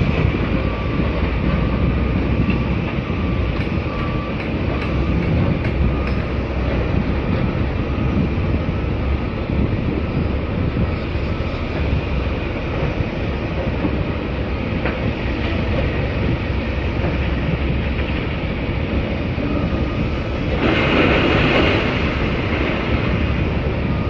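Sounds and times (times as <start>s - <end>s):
machine rumbling: 0.0s - 24.0s.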